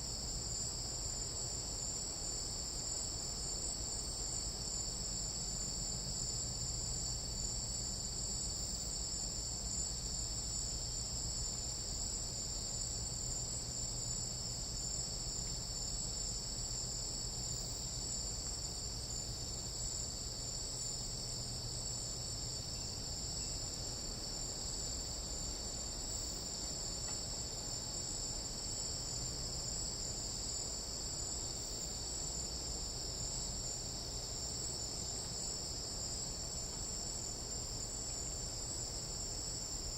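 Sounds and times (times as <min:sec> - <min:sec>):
crickets and katydids trilling: 0:00.0 - 0:39.9.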